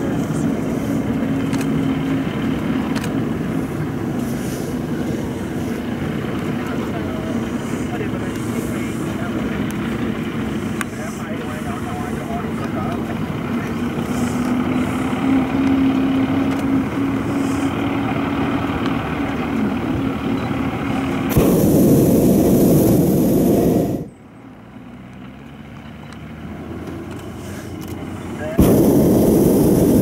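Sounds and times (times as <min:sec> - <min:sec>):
propane burner blast: 0:00.0 - 0:24.2, 0:27.4 - 0:30.0
low hum: 0:00.0 - 0:24.4, 0:28.6 - 0:30.0.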